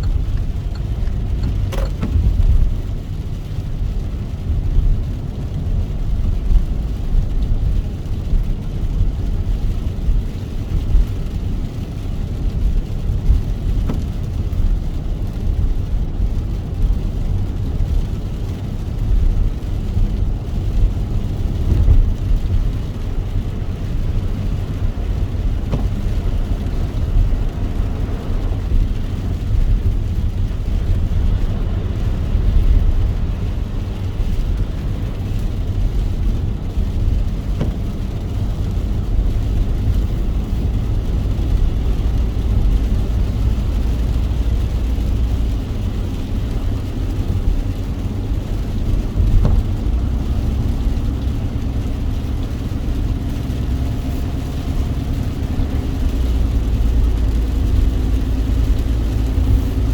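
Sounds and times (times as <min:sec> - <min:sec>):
car road and engine rumble: 0:00.0 - 0:59.9
rain hiss: 0:00.0 - 0:59.9.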